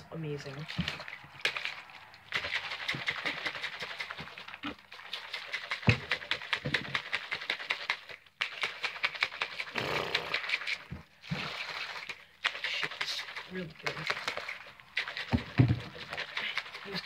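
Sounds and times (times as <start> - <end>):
plastic shaker cup rattling: 0.7 - 17.0.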